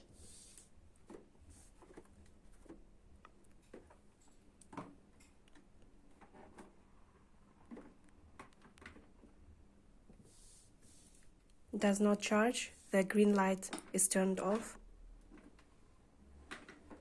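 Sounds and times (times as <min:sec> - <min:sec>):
faint irregular clicks and ticks: 0:00.0 - 0:17.0.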